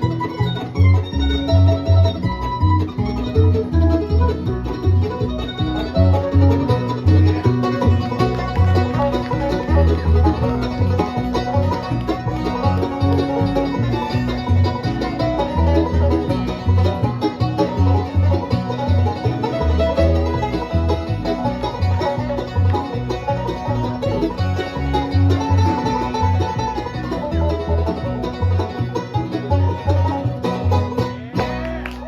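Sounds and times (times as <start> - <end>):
banjo: 0.0 - 32.0
bluegrass band playing: 0.0 - 32.0.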